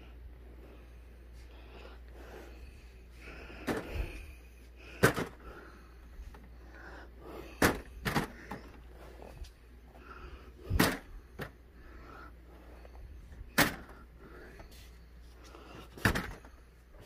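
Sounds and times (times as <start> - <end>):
faint room noise: 0.0 - 17.0.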